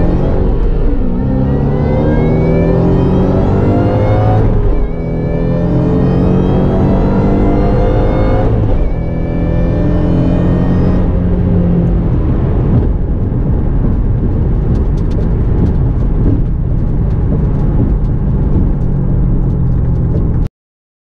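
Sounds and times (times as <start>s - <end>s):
car engine cruising: 0.0s - 20.5s
tyre and road noise: 0.0s - 20.5s.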